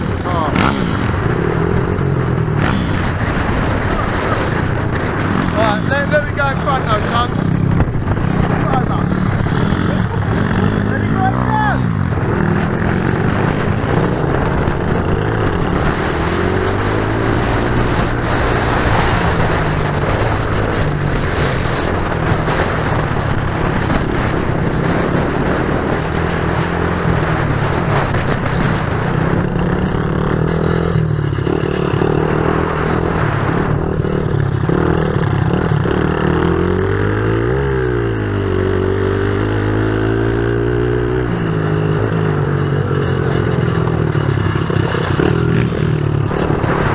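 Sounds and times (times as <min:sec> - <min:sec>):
pit bike engines revving: 0:00.0 - 0:46.9.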